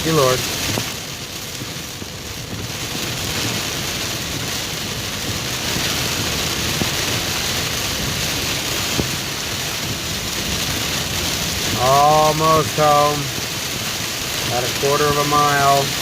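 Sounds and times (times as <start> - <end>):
heavy rain on a car roof: 0.0 - 16.0.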